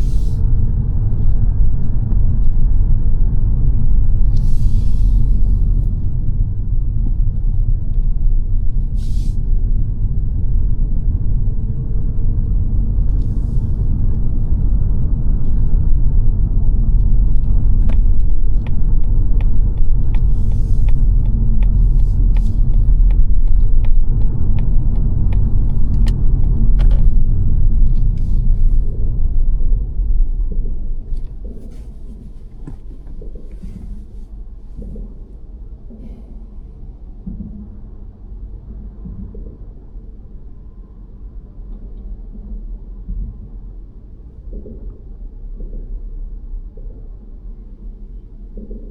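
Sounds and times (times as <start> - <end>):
car interior road rumble: 0.0 - 48.9.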